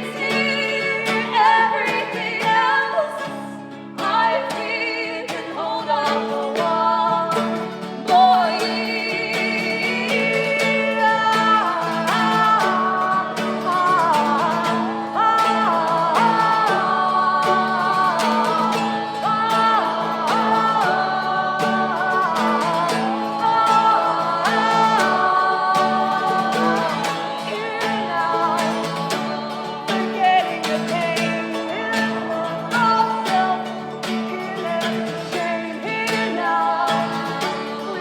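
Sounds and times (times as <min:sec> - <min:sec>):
strummed acoustic guitar: 0:00.0 - 0:38.0
women singing: 0:00.0 - 0:38.0.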